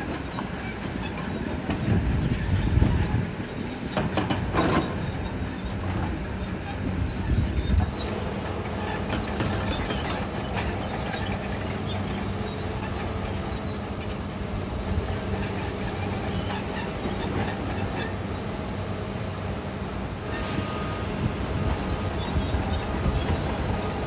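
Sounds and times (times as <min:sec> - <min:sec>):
diesel engine hum: 0:00.0 - 0:24.0
high metallic squeals: 0:00.4 - 0:24.0.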